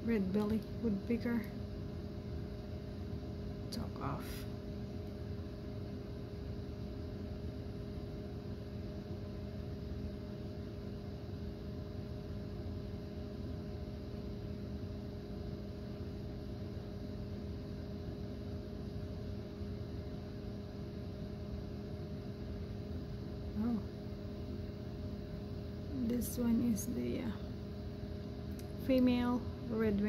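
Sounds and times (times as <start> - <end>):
mechanical hum: 0.0 - 30.0.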